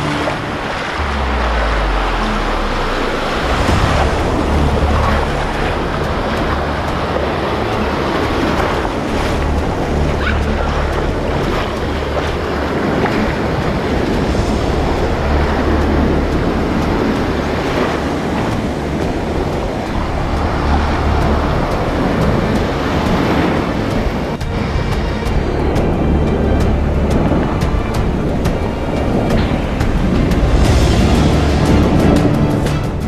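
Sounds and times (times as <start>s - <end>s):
ocean surf washing: 0.0s - 33.0s
wind buffeting microphone: 0.0s - 33.0s.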